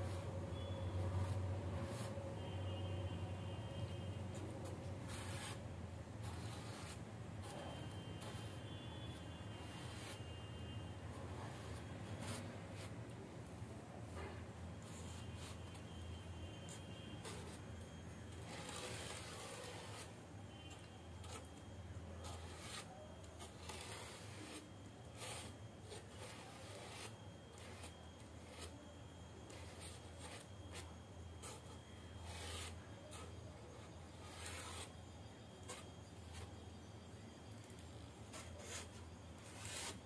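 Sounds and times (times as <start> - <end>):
scraping on polystyrene sheet: 0.0 - 13.2, 14.1 - 36.8, 37.5 - 40.0.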